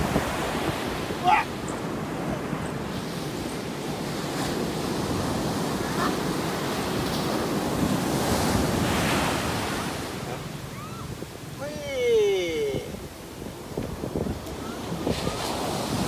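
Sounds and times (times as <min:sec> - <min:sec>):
wind buffeting microphone: 0:00.0 - 0:11.8, 0:12.5 - 0:16.0
ocean surf breaking: 0:00.0 - 0:16.0.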